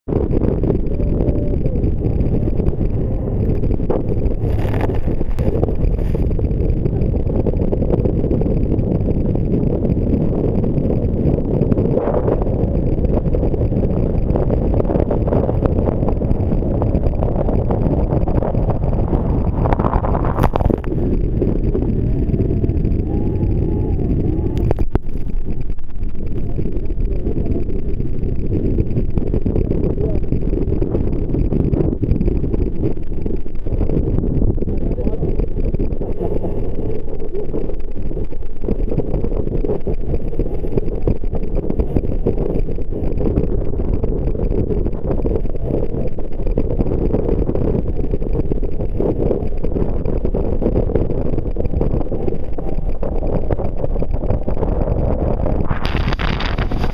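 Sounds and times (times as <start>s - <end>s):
boat motor rumble: 0.0s - 56.9s
wind: 0.0s - 56.9s.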